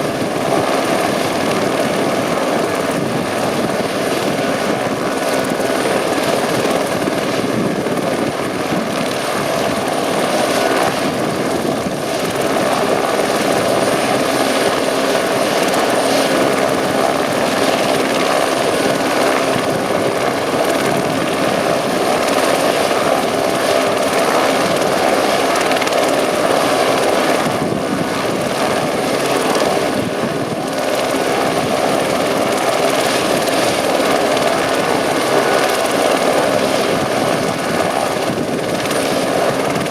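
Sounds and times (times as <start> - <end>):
helicopter rotor noise: 0.0 - 39.9.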